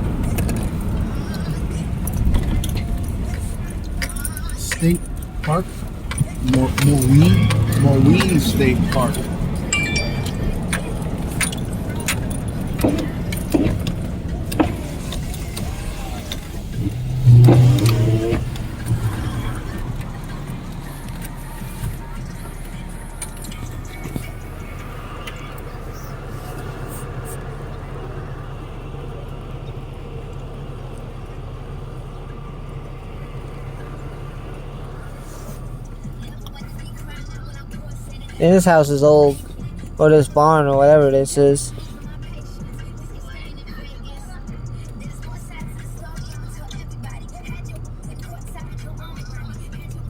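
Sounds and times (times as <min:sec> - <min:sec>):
truck engine and road rumble: 0:00.0 - 0:50.0.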